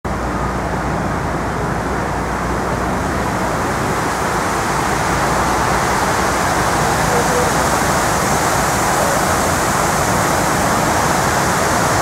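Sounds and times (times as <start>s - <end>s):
city traffic passing: 0.1s - 12.0s.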